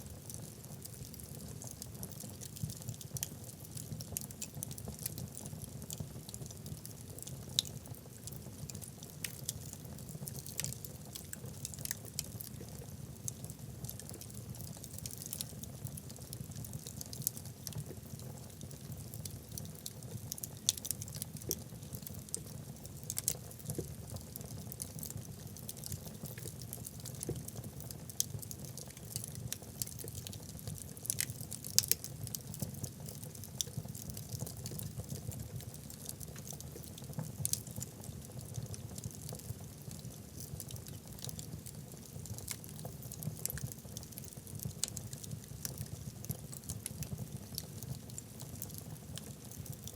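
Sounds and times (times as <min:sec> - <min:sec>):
logs crackling and popping: 0:00.1 - 0:49.9.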